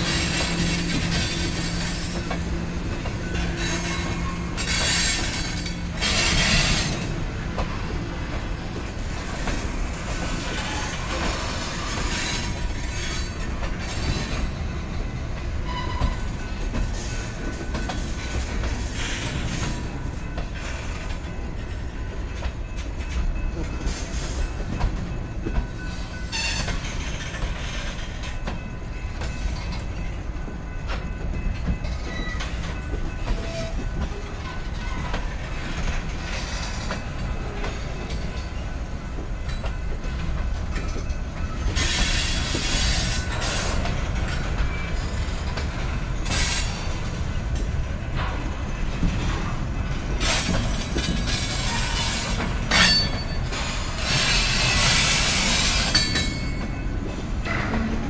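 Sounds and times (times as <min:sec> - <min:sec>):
train clatter: 0:00.0 - 0:58.0
train wheels rumbling on rails: 0:00.0 - 0:58.0.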